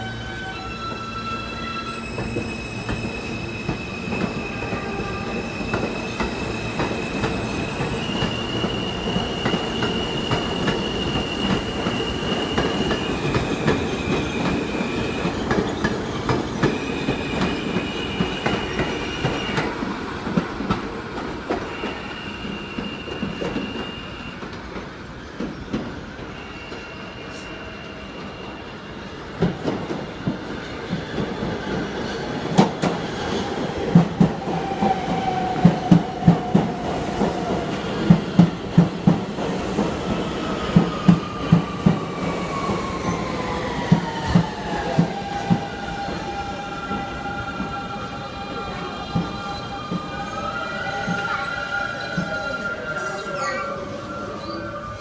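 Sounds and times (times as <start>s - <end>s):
subway train running: 0.0s - 55.0s.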